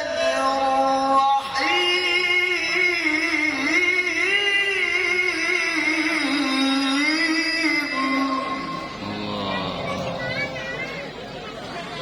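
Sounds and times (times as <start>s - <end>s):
man reciting in melodic chant: 0.0s - 10.4s.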